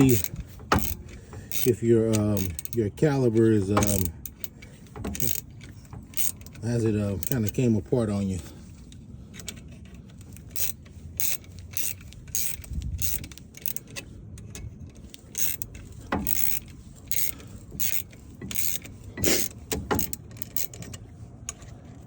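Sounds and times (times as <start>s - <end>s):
ratchet clicking: 0.0s - 7.8s, 8.9s - 21.8s
metal tools clinking: 0.0s - 8.6s, 9.2s - 21.9s.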